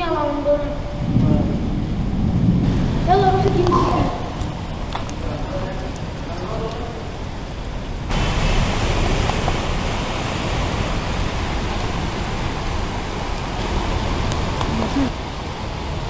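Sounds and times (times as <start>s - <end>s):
heavy rain: 0.0s - 16.0s
rushing floodwater: 2.6s - 16.0s.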